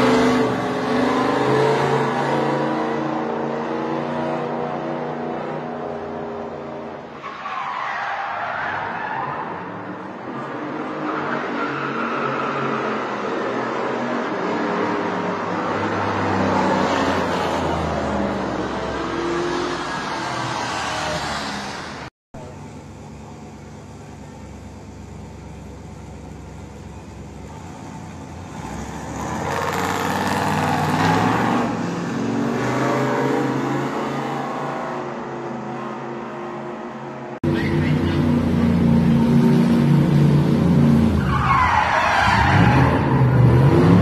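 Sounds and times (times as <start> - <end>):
car engines revving and accelerating: 0.0 - 22.5, 25.6 - 44.0.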